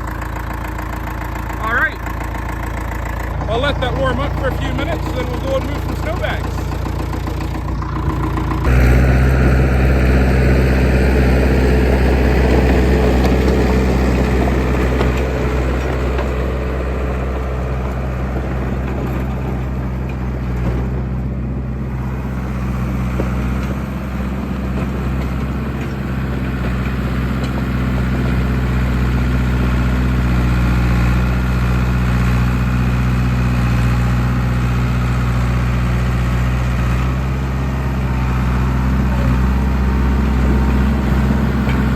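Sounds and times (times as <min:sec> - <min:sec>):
bulldozer engine idling: 0:00.0 - 0:41.9.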